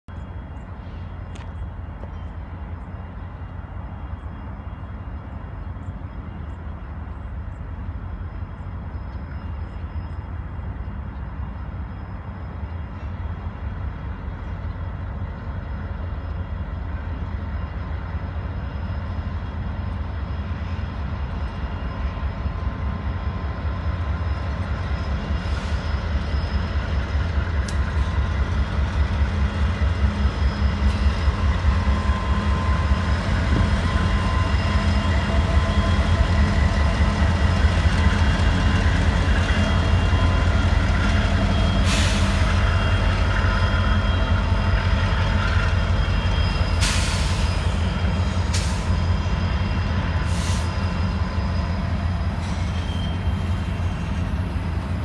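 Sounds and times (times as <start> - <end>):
locomotive engine rumble: 0.1 - 55.0.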